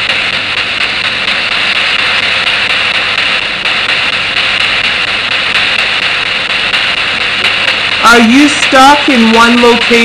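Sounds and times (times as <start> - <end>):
loud static hiss: 0.0 - 10.0.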